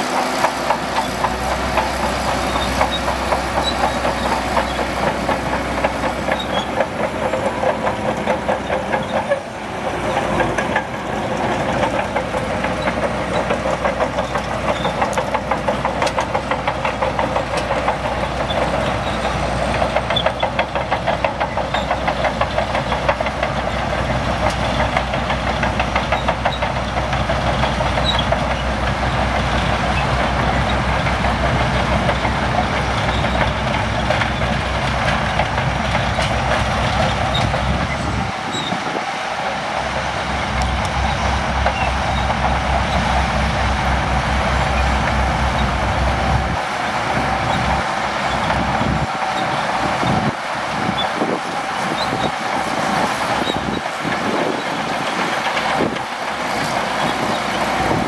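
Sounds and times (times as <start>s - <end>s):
bulldozer diesel engine: 0.0s - 58.0s
tracks clattering: 0.0s - 58.0s.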